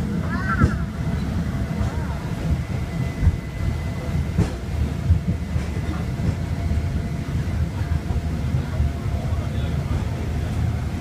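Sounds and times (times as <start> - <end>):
tram car rumbling on rails: 0.0 - 11.0.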